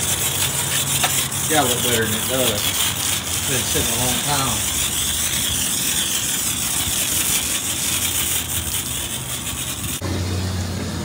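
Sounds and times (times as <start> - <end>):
pressure washer spraying water: 0.0 - 10.1.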